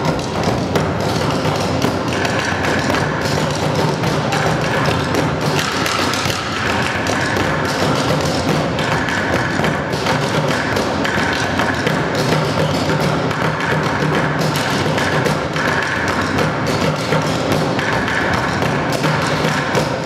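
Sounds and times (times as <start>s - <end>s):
drumming on plastic barrels: 0.0s - 20.0s.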